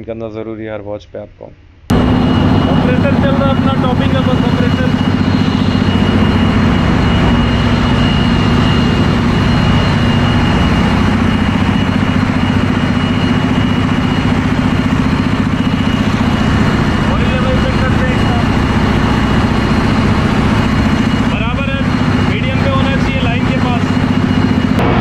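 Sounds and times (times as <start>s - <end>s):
engine room machinery din: 1.8s - 25.0s
thin high whine: 1.9s - 25.0s.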